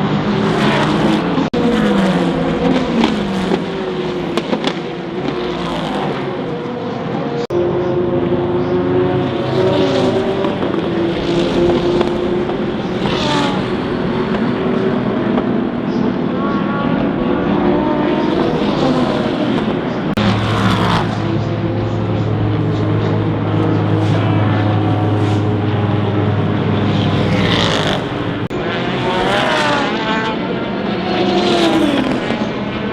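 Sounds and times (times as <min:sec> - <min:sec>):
race car engines passing: 0:00.0 - 0:32.9.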